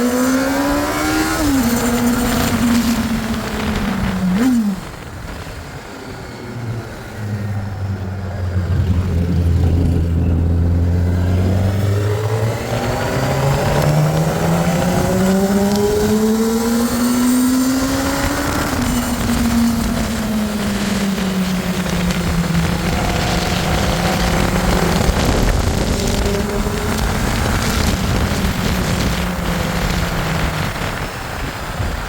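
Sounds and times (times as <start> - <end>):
heavy motorcycle engine: 0.0 - 32.0.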